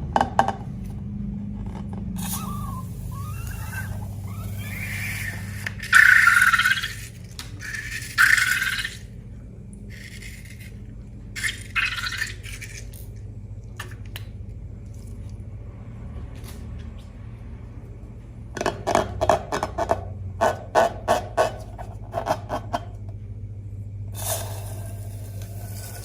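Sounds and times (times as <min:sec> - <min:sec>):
low hum: 0:00.0 - 0:18.6, 0:21.7 - 0:26.0.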